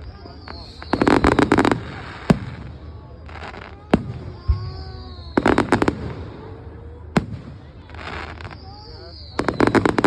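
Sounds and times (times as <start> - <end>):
fireworks bangs: 0.0 - 10.0
fireworks crackling volley: 0.0 - 10.0.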